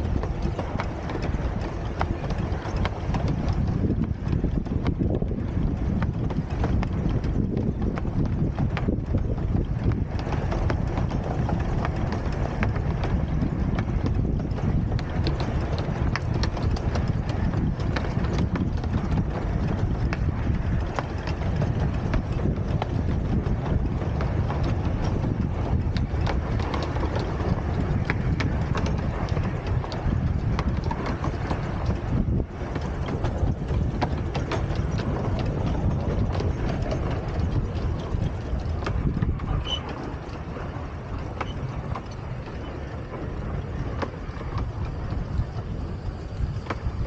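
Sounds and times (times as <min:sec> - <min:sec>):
miniature steam train rumbling: 0:00.0 - 0:47.0
wheels and couplings clicking: 0:00.0 - 0:47.0.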